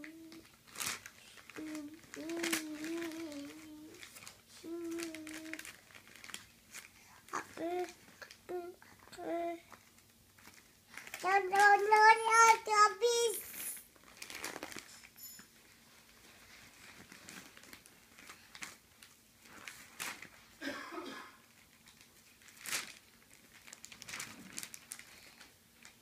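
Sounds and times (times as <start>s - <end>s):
magazine pages rustling: 0.0s - 8.3s, 9.2s - 15.0s, 16.0s - 20.5s, 21.5s - 26.0s.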